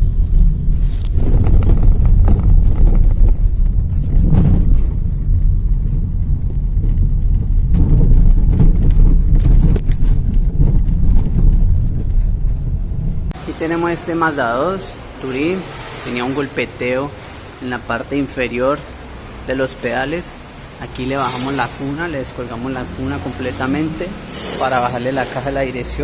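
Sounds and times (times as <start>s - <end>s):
road and wind noise rumble: 0.0s - 26.0s.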